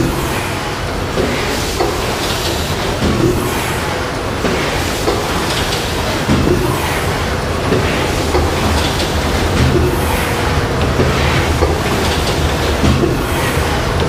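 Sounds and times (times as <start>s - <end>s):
machine clacks: 0.0s - 14.0s
machine hum and rumble: 0.0s - 14.0s.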